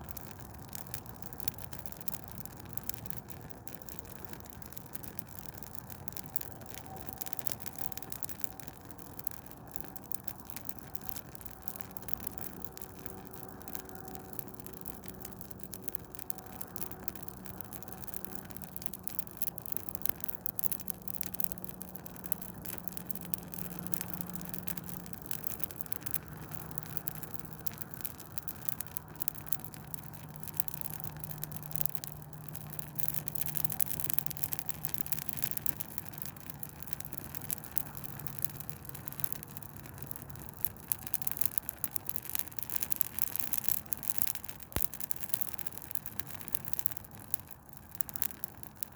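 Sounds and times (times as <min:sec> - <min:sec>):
tree fire crackling and popping: 0:00.0 - 0:48.9.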